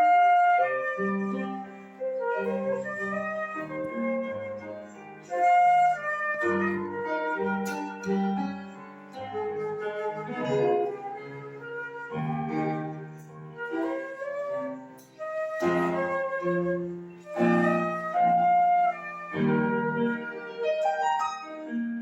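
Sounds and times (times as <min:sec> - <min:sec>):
flute melody: 0:00.0 - 0:22.0.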